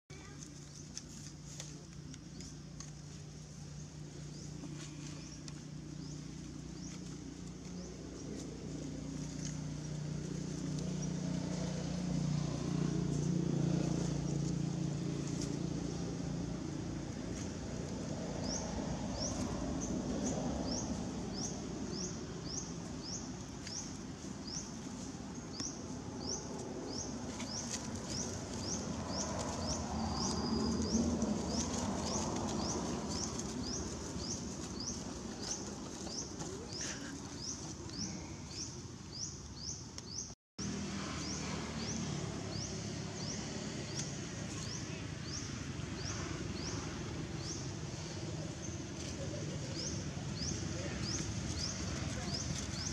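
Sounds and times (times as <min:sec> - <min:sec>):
rustling in leaf litter: 0:00.1 - 0:38.6, 0:47.4 - 0:52.9.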